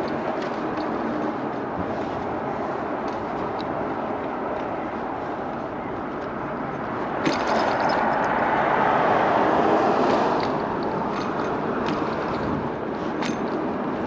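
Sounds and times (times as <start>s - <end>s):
tyre noise on road: 0.0s - 14.0s.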